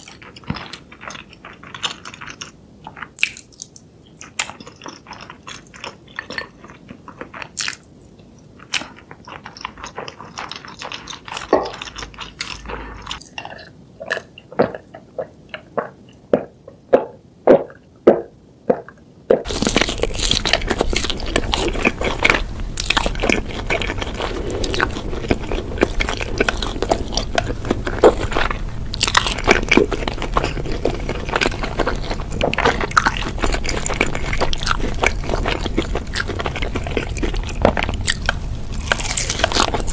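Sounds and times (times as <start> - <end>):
fried chicken crunching: 0.0 - 7.8, 8.6 - 15.0, 19.4 - 39.9
wet chewing: 0.0 - 7.8, 8.6 - 39.9.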